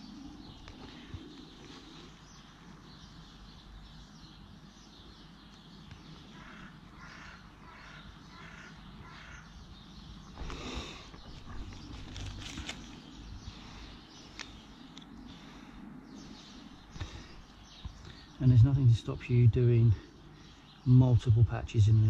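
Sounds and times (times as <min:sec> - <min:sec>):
faint bird calls: 0:00.0 - 0:22.0.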